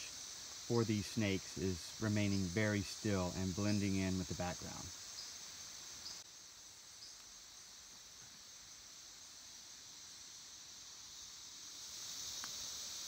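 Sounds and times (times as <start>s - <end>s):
high-pitched insect drone: 0.0s - 13.0s
low hiss: 0.0s - 13.0s.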